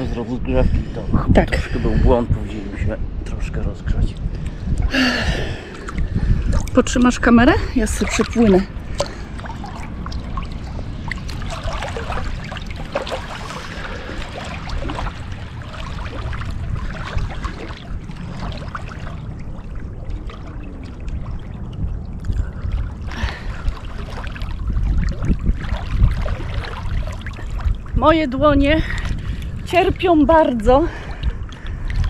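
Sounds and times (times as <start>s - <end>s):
steady low rumble: 0.0s - 32.0s
water splashing from swimmer: 5.0s - 32.0s.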